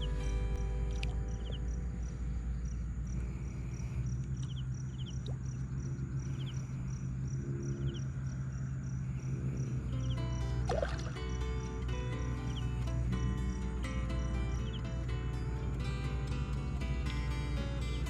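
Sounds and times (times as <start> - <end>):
insects chirping: 0.0 - 18.0
steady low hum: 0.0 - 18.0.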